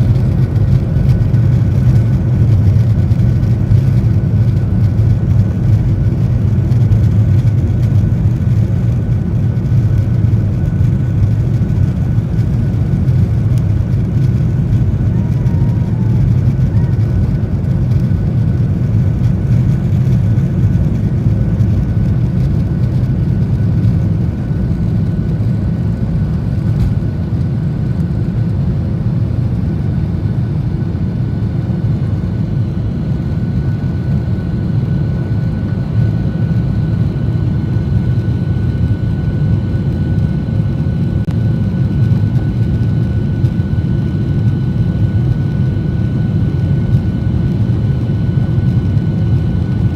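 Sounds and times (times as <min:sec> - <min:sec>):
faint steady whine: 0:00.0 - 0:49.9
jet engine and airflow rumble: 0:00.0 - 0:49.9.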